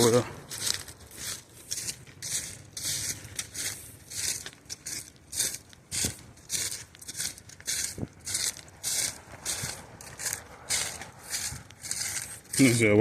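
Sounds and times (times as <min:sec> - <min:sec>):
footsteps crunching on gravel: 0:00.0 - 0:13.0.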